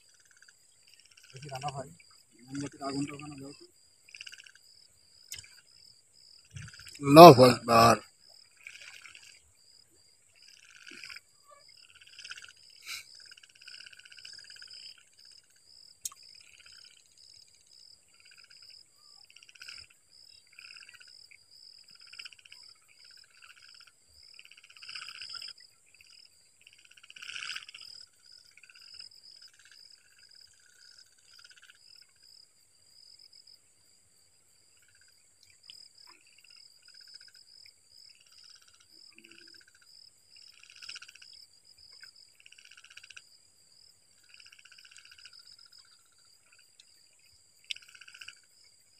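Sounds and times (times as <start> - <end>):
frogs croaking: 0.0 - 48.9.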